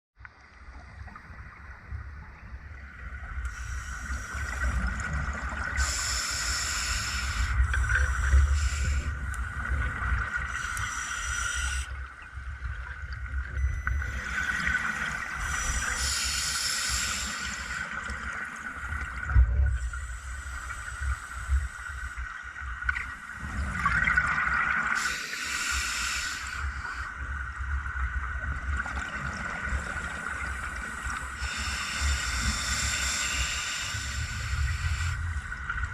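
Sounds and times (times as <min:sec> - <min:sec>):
faint steady hum: 0:00.2 - 0:35.9
exhaled bubbles bubbling hiss: 0:03.1 - 0:27.5, 0:28.2 - 0:35.9.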